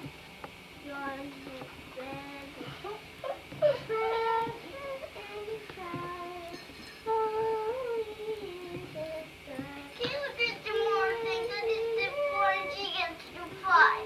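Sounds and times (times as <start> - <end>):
girl singing: 0.8 - 14.0.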